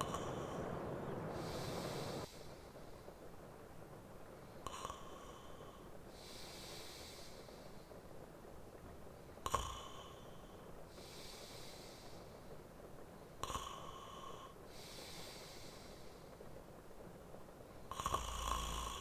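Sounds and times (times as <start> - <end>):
soft hissing exhale: 0.0 - 3.2, 4.5 - 8.3, 9.2 - 16.6, 17.8 - 19.0
slow sleeping breathing: 0.0 - 3.3, 4.5 - 8.3, 9.2 - 17.0, 17.8 - 19.0.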